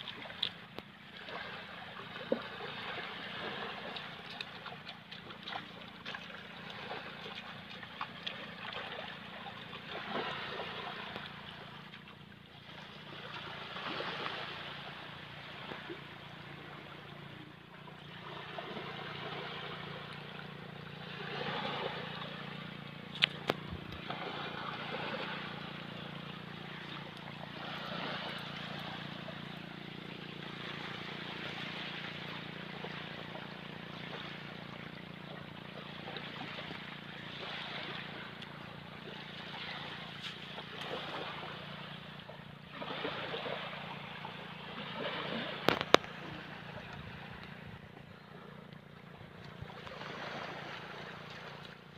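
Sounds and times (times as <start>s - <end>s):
low motor hum: 0.0s - 51.9s.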